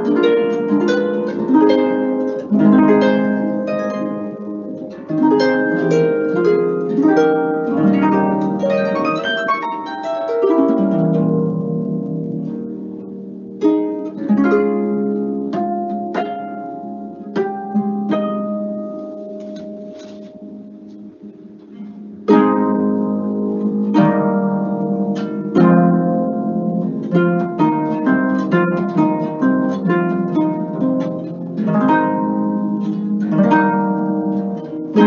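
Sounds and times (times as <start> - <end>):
harp plucking: 0.0 - 35.0.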